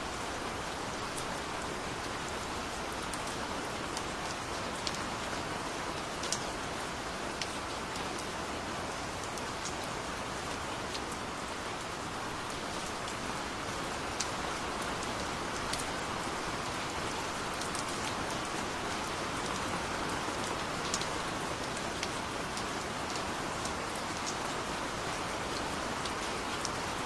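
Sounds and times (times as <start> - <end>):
gentle rain: 0.0 - 27.0.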